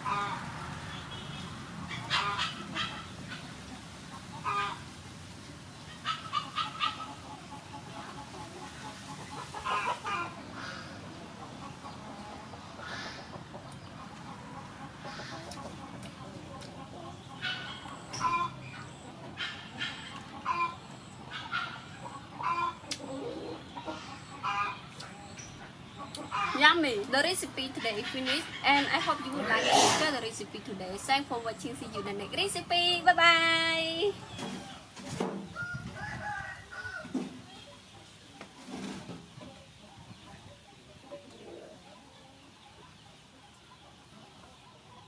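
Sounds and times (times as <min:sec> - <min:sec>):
chickens clucking: 0:00.0 - 0:45.0.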